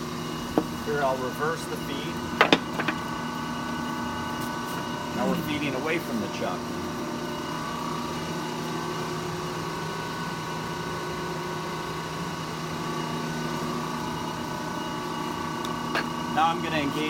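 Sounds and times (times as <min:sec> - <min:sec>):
lathe mechanical hum: 0:00.0 - 0:17.0.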